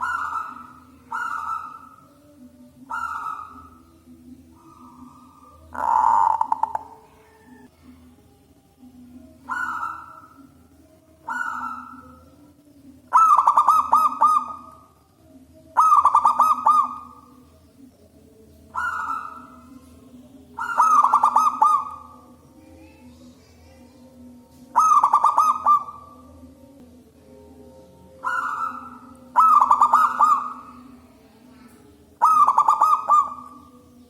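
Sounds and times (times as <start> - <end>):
dove cooing: 0.0 - 7.7, 9.3 - 15.0, 15.6 - 17.6, 18.6 - 22.4, 23.7 - 26.4, 28.0 - 34.0.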